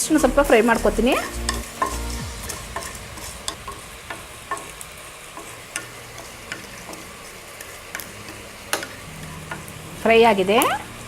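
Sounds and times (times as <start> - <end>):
spices sizzling in a pan: 0.0 - 11.0.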